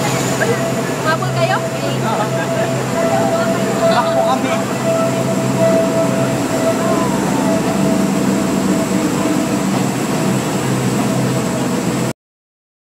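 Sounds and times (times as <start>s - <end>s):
train running noise: 0.0s - 12.1s.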